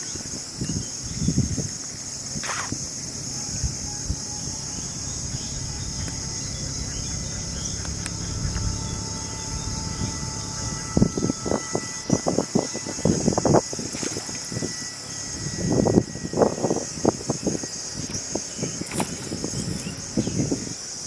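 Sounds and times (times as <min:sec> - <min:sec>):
insect chorus drone: 0:00.0 - 0:21.0
low rumble: 0:01.0 - 0:20.8.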